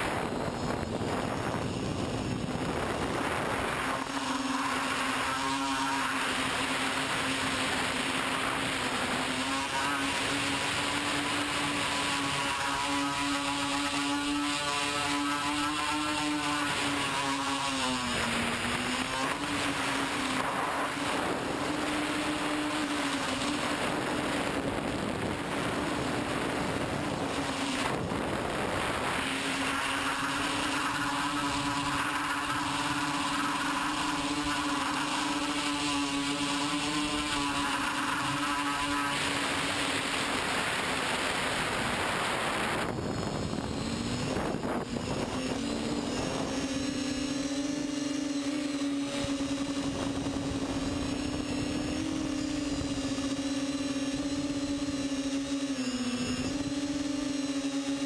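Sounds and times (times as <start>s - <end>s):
quadcopter motors whining: 0.0s - 58.0s
wind noise: 0.0s - 58.0s.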